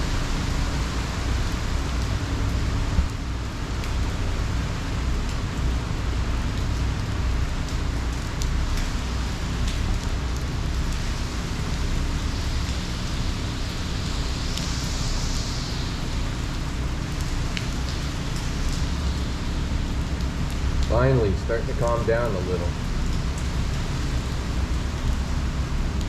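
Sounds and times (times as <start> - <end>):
heavy rain hiss: 0.0 - 26.0
rain drop ticks: 0.0 - 26.0.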